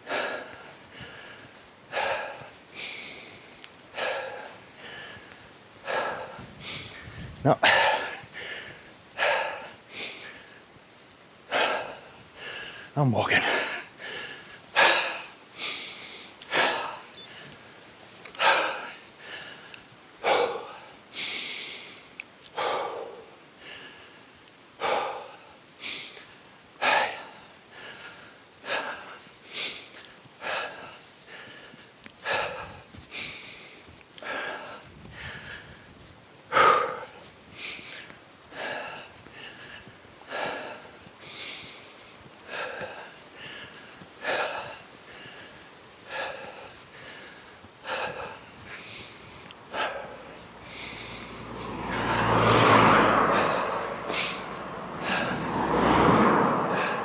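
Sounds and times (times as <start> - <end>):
person breathing heavily: 0.0 - 10.8, 11.5 - 57.0.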